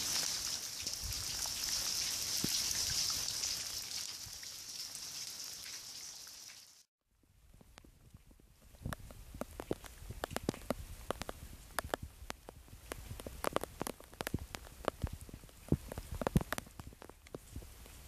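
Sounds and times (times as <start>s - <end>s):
raindrops tapping on hard surface: 0.0s - 6.7s, 7.7s - 18.0s.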